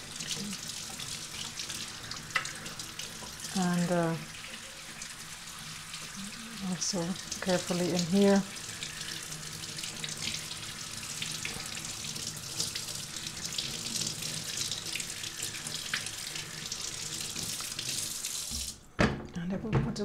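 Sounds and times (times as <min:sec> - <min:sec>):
tap water splashing in sink: 0:00.0 - 0:19.2.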